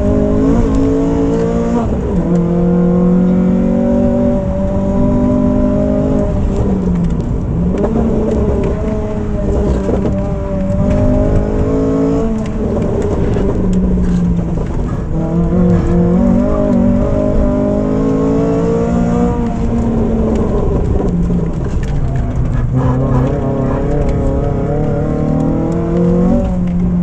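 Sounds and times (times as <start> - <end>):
car engine revving under load: 0.0 - 27.0.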